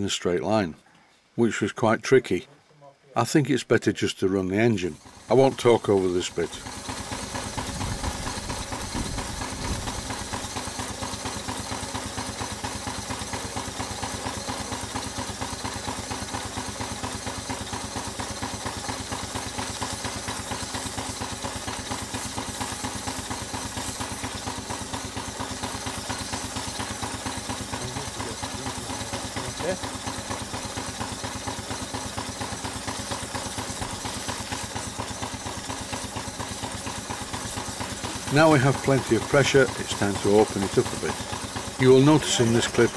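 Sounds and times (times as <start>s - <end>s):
model steam engine beating fast: 4.4s - 42.9s.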